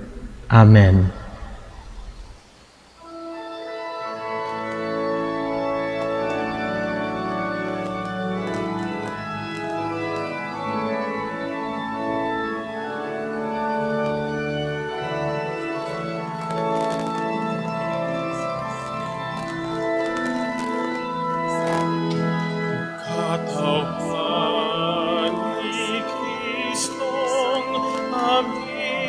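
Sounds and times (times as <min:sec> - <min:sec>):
organ playing slow chords: 0:00.0 - 0:29.0.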